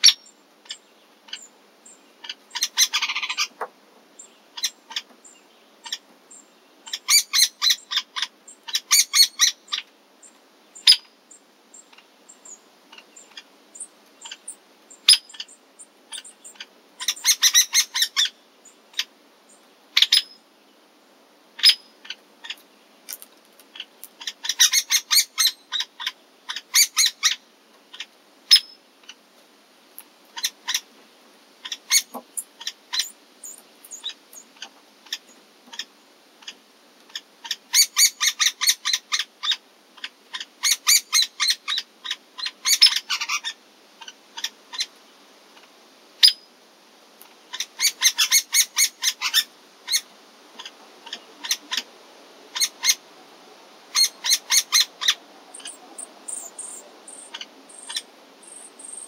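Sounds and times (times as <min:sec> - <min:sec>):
woodpecker chattering begging calls: 0:00.0 - 0:09.9, 0:10.8 - 0:11.1, 0:11.7 - 0:19.1, 0:20.0 - 0:20.4, 0:21.6 - 0:29.2, 0:30.4 - 0:30.9, 0:31.6 - 0:44.9, 0:47.5 - 0:51.9, 0:52.5 - 0:53.0, 0:53.9 - 0:59.0.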